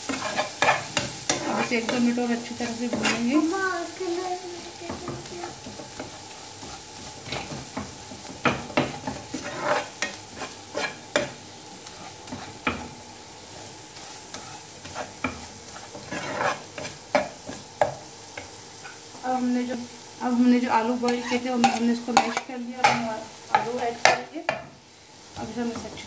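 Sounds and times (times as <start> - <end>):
spatula scraping frying pan: 0.0 - 19.1, 21.0 - 24.8
light sizzle: 0.0 - 26.0.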